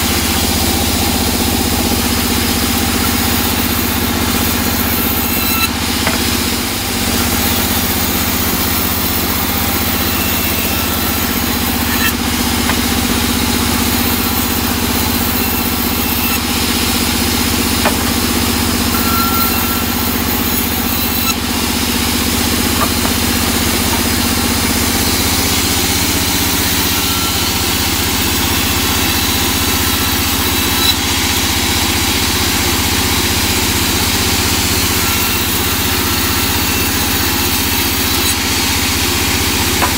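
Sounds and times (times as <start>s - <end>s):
band saw ripping boards: 0.0s - 39.9s.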